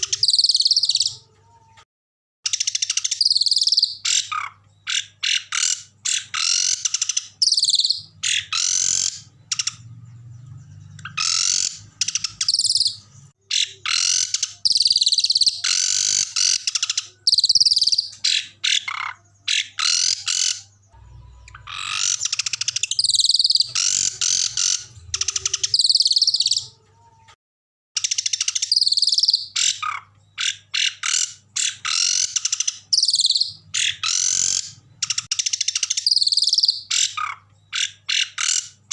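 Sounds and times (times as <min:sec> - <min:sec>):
songbird trilling and chattering: 0:00.0 - 0:01.2, 0:02.5 - 0:09.9, 0:10.7 - 0:20.8, 0:21.4 - 0:26.7, 0:28.0 - 0:38.9.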